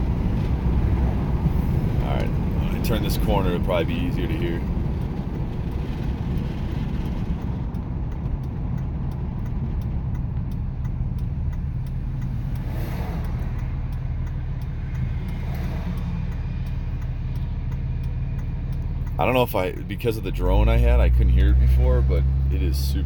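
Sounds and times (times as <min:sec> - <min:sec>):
diesel engine rumble: 0:00.0 - 0:23.0
road noise: 0:00.0 - 0:23.0.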